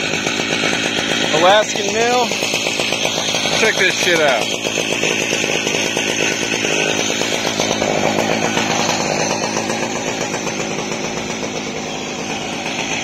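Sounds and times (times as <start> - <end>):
chainsaw idling: 0.0 - 13.0.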